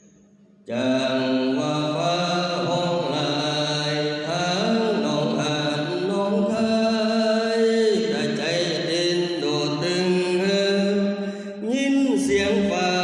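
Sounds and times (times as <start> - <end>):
man chanting melodically: 0.7 - 13.0.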